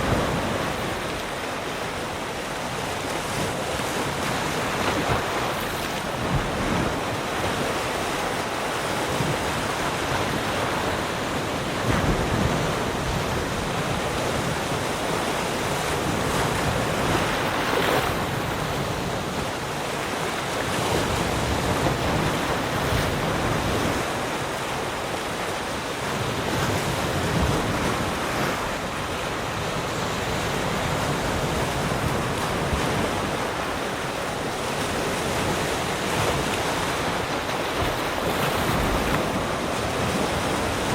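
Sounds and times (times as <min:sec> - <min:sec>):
waves washing around rocks: 0:00.0 - 0:40.9
wind: 0:00.0 - 0:40.9.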